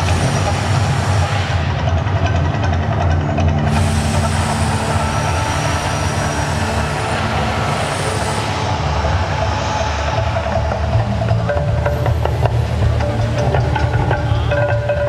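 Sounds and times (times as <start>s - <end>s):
deep rumble over loudspeakers: 0.0s - 15.0s.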